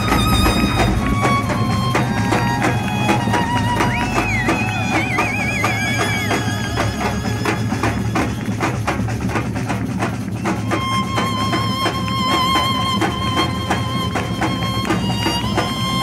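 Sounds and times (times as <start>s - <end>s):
samba drum band: 0.0s - 16.0s.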